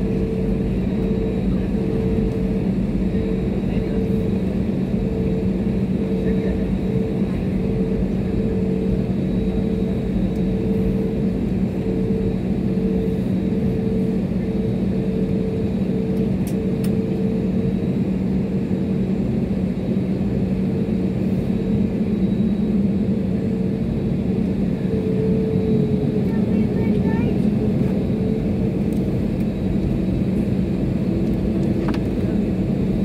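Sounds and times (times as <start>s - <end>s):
airliner cabin engine hum: 0.0s - 33.0s.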